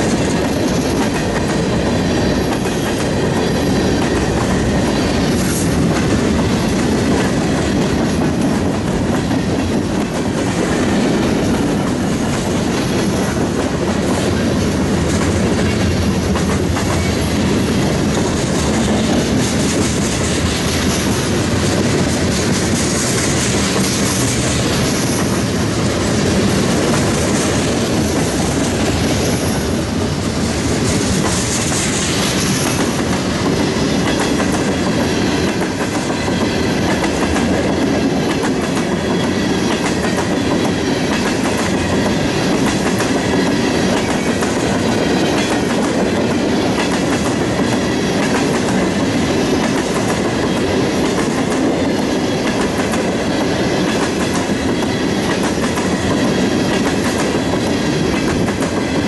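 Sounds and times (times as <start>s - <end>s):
freight train rolling past: 0.0s - 59.0s
steel wheels rattling on rails: 0.0s - 59.0s.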